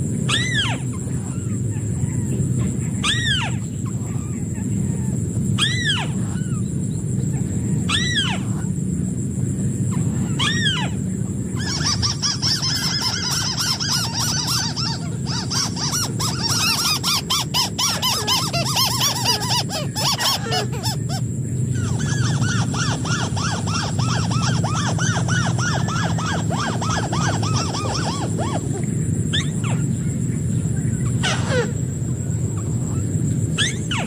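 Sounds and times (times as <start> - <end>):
bird nasal calls: 0.0 - 34.0
low background rumble: 0.0 - 34.0
bird chattering: 0.1 - 34.0.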